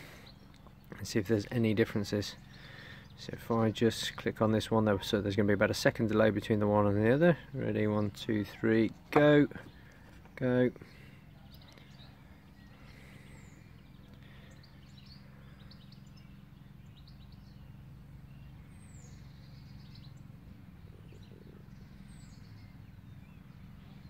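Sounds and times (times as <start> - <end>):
faint birds chirping: 0.0 - 24.0
low steady hum: 0.0 - 24.0.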